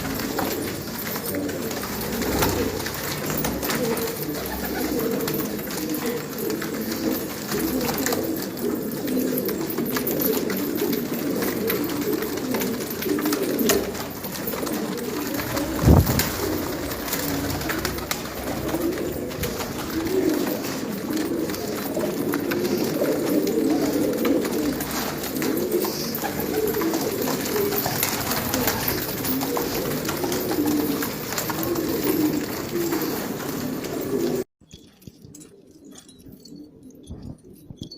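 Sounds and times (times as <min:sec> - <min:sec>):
pigeons cooing: 0:00.0 - 0:34.5.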